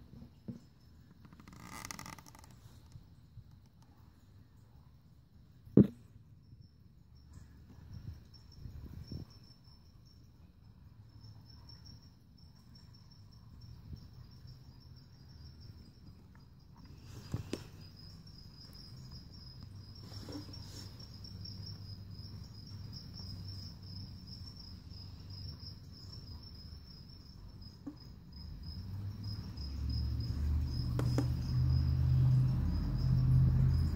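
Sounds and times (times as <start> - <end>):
cricket chirping: 3.9 - 33.9.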